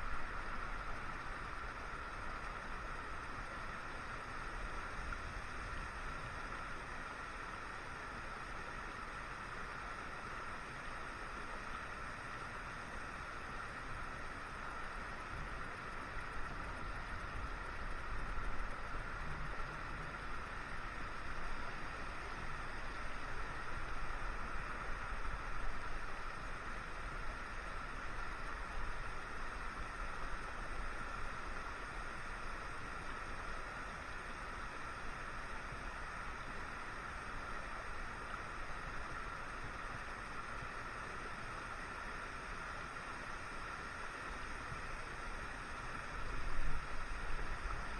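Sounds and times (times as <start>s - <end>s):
creek flowing over rocks: 0.0s - 47.9s.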